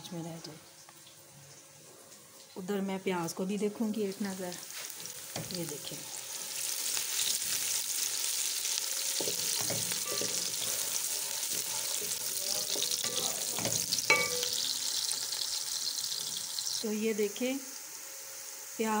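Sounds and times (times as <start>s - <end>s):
onions sizzling in hot oil: 2.4s - 19.0s.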